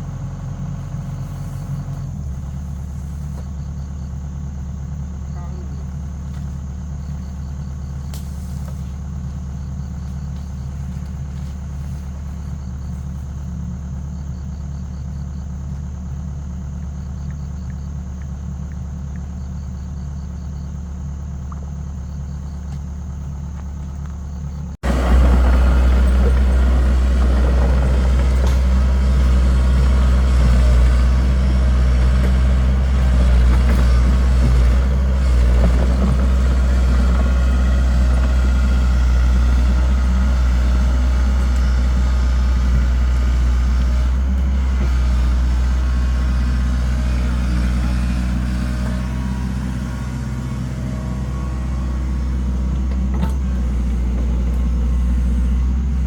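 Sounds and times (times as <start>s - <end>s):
engine humming: 0.0s - 56.0s
rough loud engine running: 0.0s - 56.0s.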